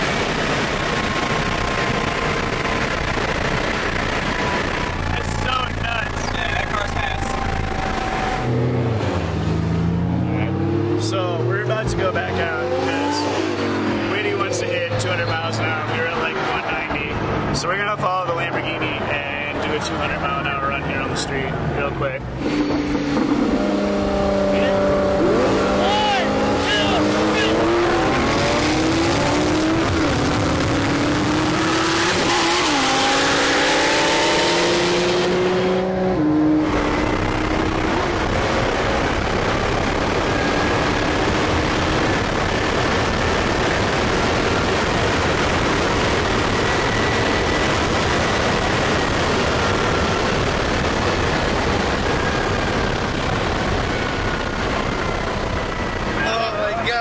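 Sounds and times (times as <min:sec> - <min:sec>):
car engine accelerating through gears: 0:00.0 - 0:16.5, 0:22.3 - 0:56.4
wind and road noise: 0:00.0 - 0:57.0.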